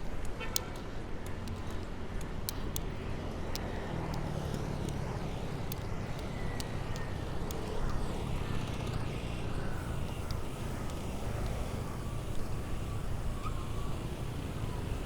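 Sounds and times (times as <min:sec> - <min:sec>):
background traffic: 0:00.0 - 0:15.0
wind and road noise: 0:00.0 - 0:15.0
light ticks: 0:00.1 - 0:12.6.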